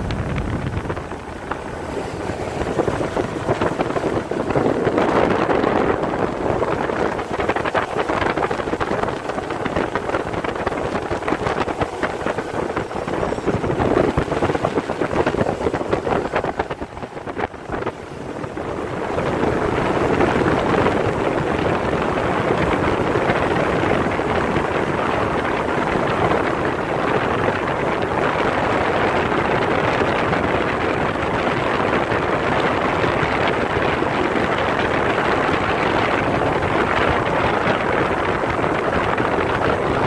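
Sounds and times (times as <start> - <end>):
motorboat engine: 0.0 - 40.0
rushing water: 0.0 - 40.0
wind buffeting microphone: 0.0 - 40.0.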